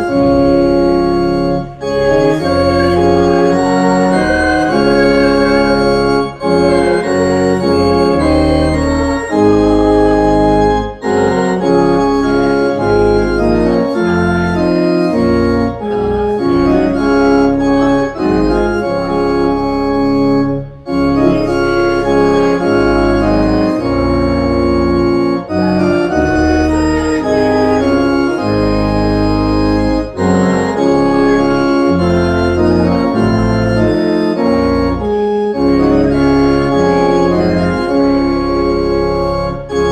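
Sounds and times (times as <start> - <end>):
church organ playing a hymn: 0.0 - 39.9.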